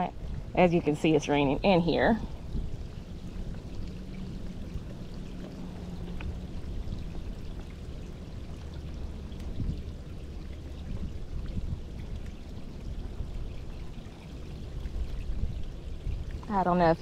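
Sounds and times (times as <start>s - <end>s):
rain falling on water: 0.0s - 17.0s.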